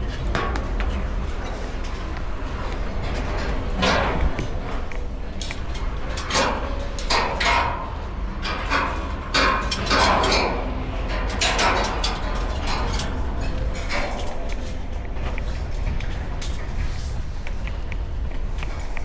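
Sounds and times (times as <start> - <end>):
metallic clanks on steel ladder: 0.0 - 17.2
steady low rumble: 0.0 - 19.0.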